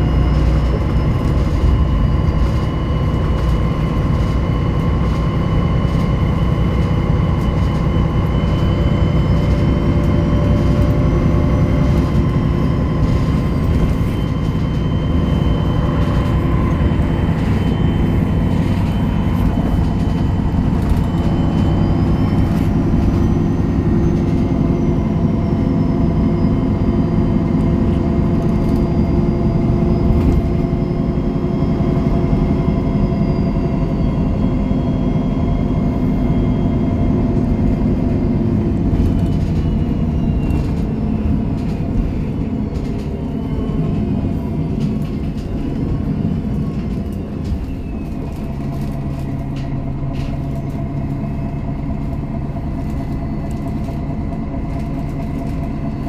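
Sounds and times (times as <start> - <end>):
bus diesel engine drone: 0.0 - 56.0
steady whine: 0.0 - 56.0.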